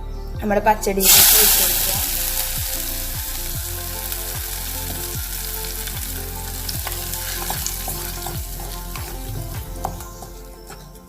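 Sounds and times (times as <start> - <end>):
seeds sizzling in hot oil: 1.0 - 10.3.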